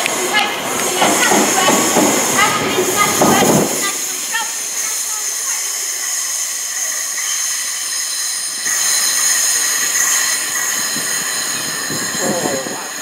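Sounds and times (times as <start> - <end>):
train rumbling: 0.0 - 13.0
train wheels squealing: 1.0 - 13.0.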